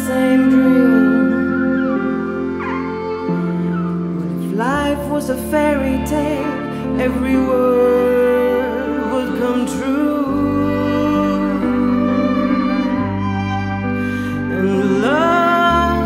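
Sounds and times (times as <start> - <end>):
live band playing slow song: 0.0 - 16.0.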